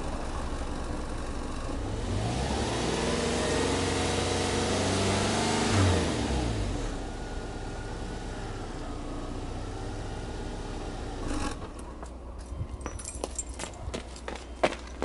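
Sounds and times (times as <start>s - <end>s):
car engine revving and idling: 0.0s - 12.1s.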